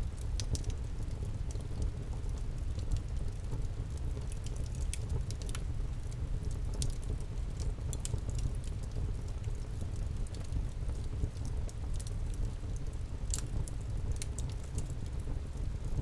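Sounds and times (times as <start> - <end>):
campfire crackling: 3.0 - 16.0.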